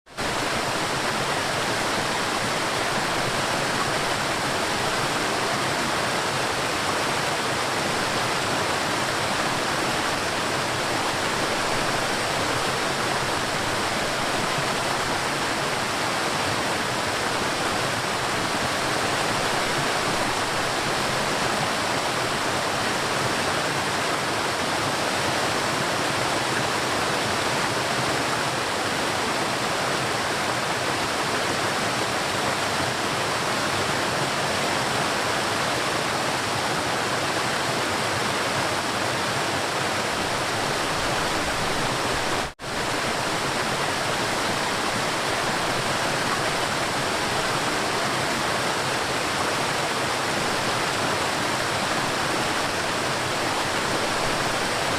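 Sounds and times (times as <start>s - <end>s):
river water rushing: 0.1s - 54.9s.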